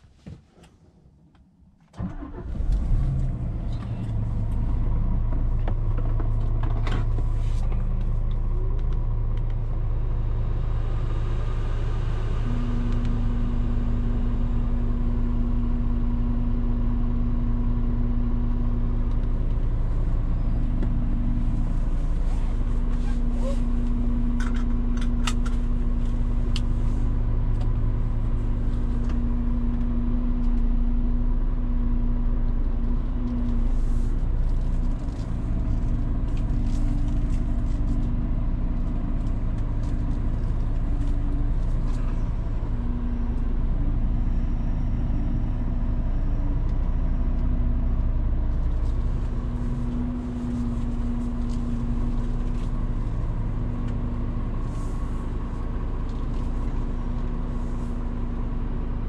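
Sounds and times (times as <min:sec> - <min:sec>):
road rumble: 0:00.0 - 0:59.0
truck engine drone: 0:02.0 - 0:59.0.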